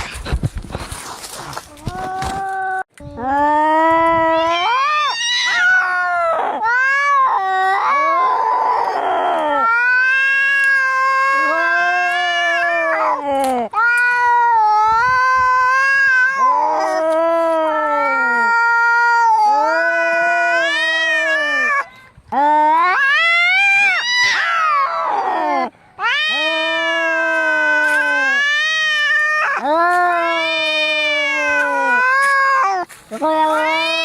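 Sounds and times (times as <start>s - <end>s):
cats yowling: 4.3s - 13.2s, 13.8s - 34.0s.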